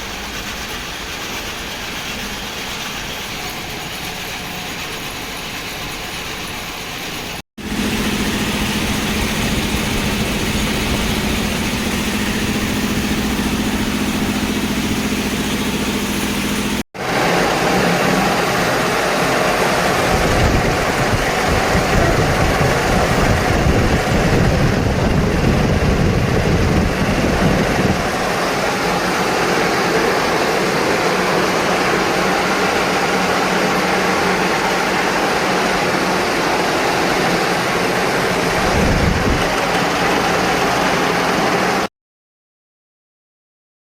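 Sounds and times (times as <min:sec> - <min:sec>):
milling machine running: 0:00.0 - 0:41.9.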